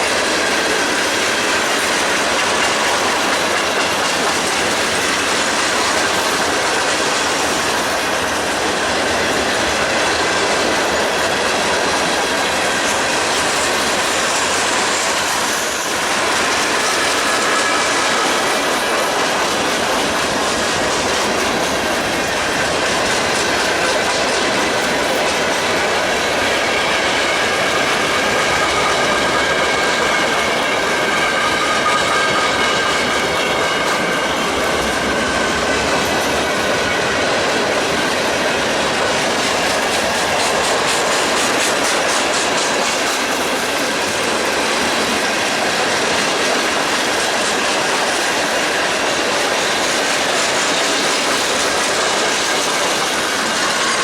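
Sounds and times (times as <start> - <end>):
train wheels clickety-clack: 0.0 - 54.0.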